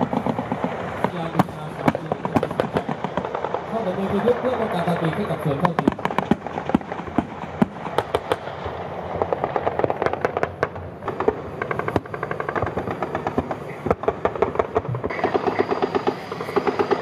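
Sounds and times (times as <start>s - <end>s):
gunshots in irregular bursts: 0.0s - 17.0s.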